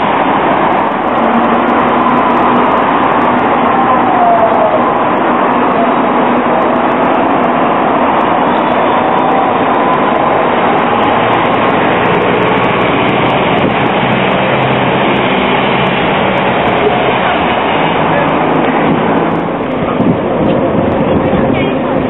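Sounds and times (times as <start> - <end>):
tram passing with faint whine: 0.0 - 22.0.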